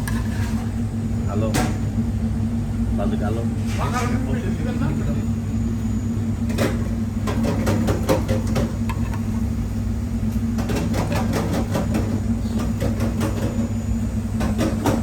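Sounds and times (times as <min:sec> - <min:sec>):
kitchen appliance hum: 0:00.0 - 0:15.0.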